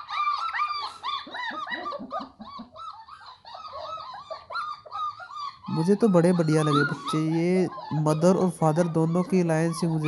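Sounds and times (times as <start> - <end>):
puppies whining and yelping: 0.0 - 10.0.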